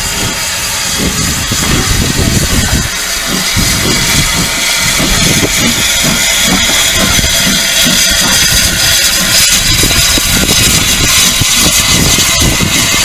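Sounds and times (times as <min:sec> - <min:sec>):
low uneven rumble: 0:00.0 - 0:13.0
steam hissing: 0:00.0 - 0:13.0.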